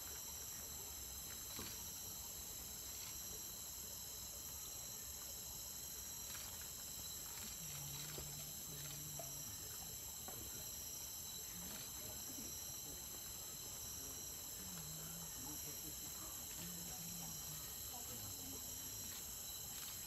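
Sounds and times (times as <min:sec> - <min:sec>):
insects droning high-pitched: 0:00.0 - 0:20.0.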